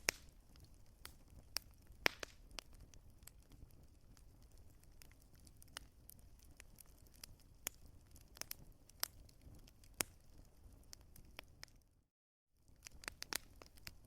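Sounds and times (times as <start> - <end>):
wood fire crackling and popping: 0.0 - 11.9, 12.6 - 14.0.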